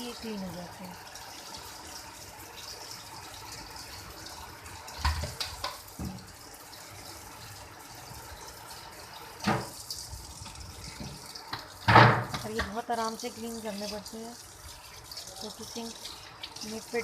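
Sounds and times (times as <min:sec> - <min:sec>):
kitchen tap running: 0:00.0 - 0:17.0.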